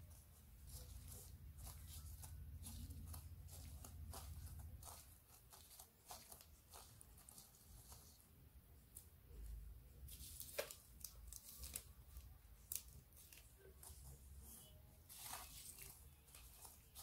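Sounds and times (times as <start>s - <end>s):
plastic glove and crumbs rustling: 0.0s - 17.0s.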